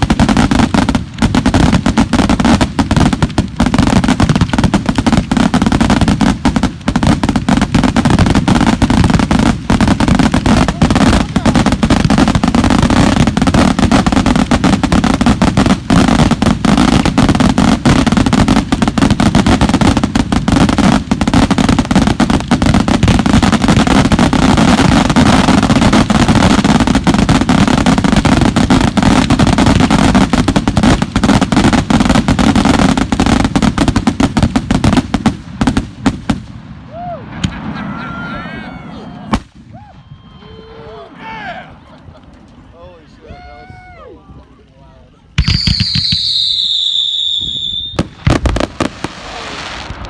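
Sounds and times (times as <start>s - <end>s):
fireworks crackling: 0.0s - 50.0s.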